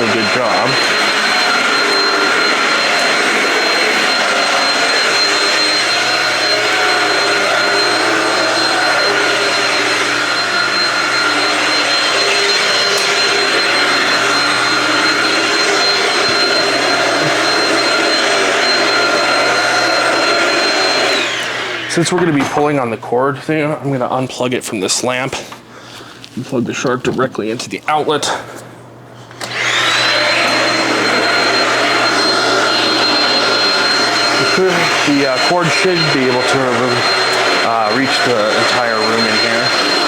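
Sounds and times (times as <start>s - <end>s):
stick vacuum running: 0.0s - 22.8s, 29.3s - 40.0s.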